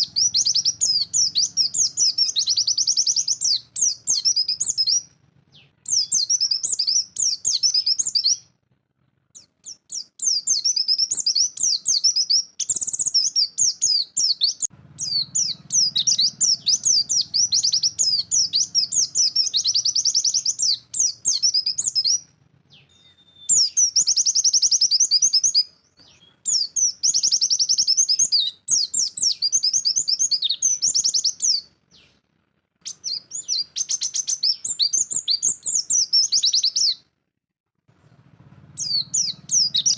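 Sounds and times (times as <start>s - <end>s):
bird twittering song: 0.0s - 8.5s, 9.3s - 32.2s, 32.8s - 37.1s, 38.8s - 39.9s.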